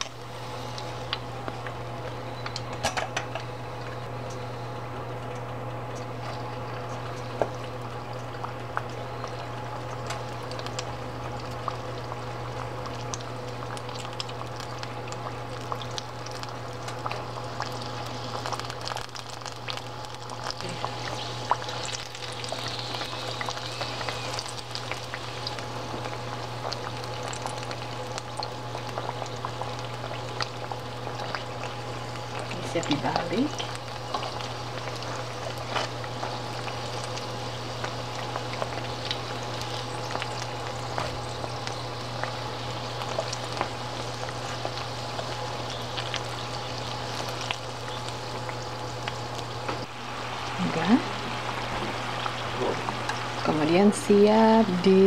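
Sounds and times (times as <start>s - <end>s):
oil bubbling and sizzling: 0.0s - 55.0s
steady low hum: 0.0s - 55.0s.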